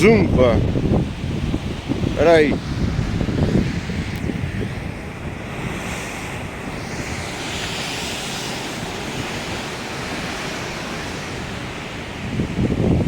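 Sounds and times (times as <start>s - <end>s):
surf washing over rocks: 0.0s - 13.0s
wind buffeting microphone: 0.0s - 13.0s.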